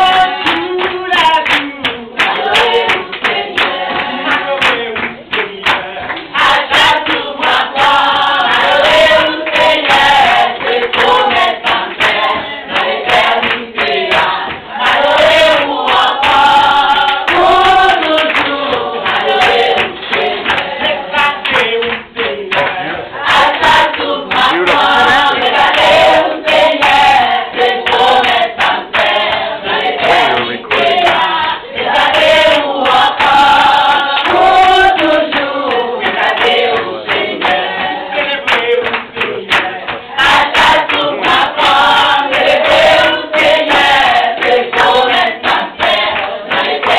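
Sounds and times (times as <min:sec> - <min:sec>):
hand claps: 0:00.0 - 0:46.9
women singing together: 0:00.0 - 0:46.9.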